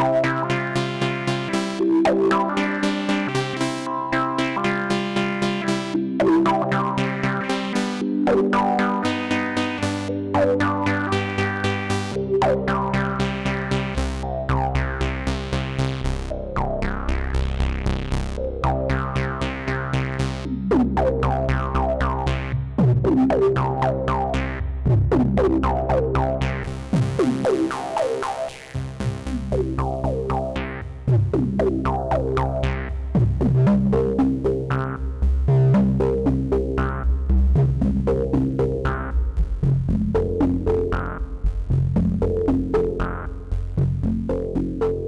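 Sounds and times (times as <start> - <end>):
synthesizer bass notes: 0.0 - 45.0
synthesizer plucky notes: 0.0 - 45.0.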